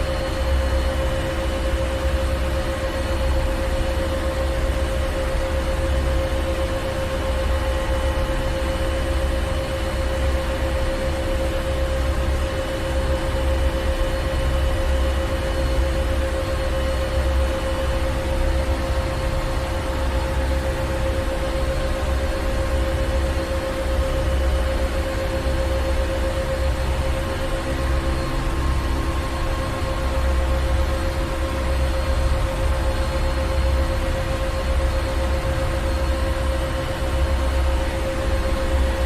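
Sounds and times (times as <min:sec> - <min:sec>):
constant hum: 0:00.0 - 0:39.0.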